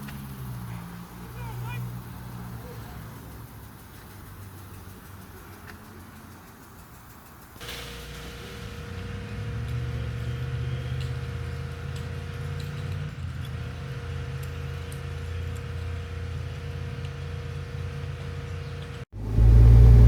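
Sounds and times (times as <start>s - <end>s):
large engine rumbling: 0.0s - 20.0s.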